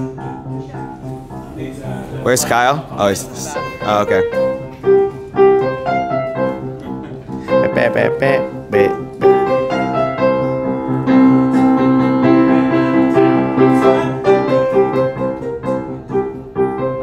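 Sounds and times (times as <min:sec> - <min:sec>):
upright piano melody over chords: 0:00.0 - 0:17.0.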